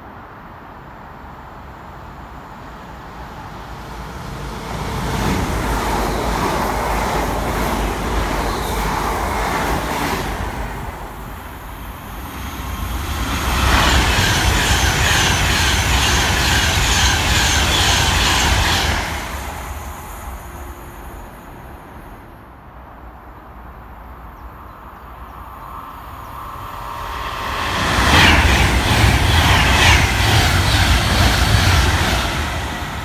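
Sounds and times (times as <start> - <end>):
electric train passing: 0.8 - 24.3, 25.1 - 33.0.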